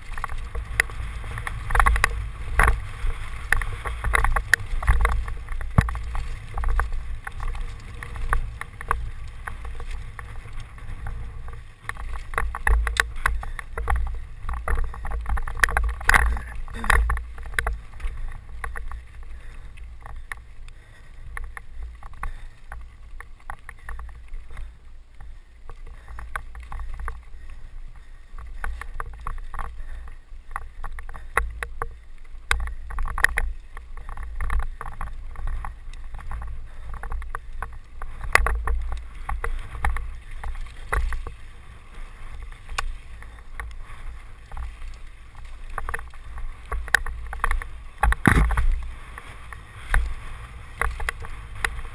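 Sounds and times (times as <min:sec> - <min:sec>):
bike rattling and knocking: 0:00.0 - 0:51.9.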